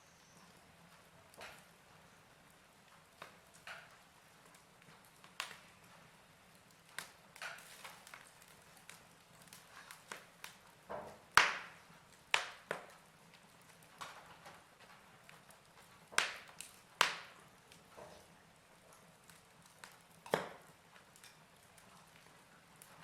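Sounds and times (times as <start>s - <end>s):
faint steady hiss: 0.0s - 23.0s
fire crackling: 0.0s - 23.0s.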